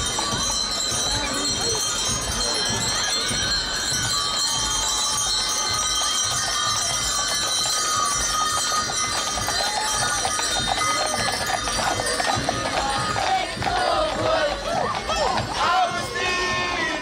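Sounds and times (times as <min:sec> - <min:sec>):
harness bells jingling: 0:00.0 - 0:17.0
outdoor crowd: 0:00.0 - 0:17.0.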